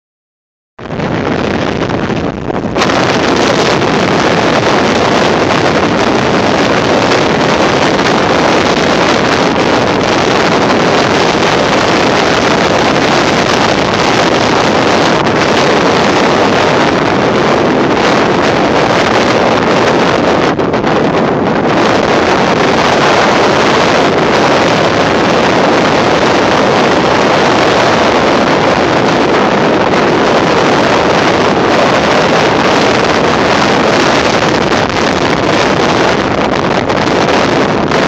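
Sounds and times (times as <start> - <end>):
heavy surf breaking: 0.8 - 38.0
wind blasting microphone: 0.8 - 38.0.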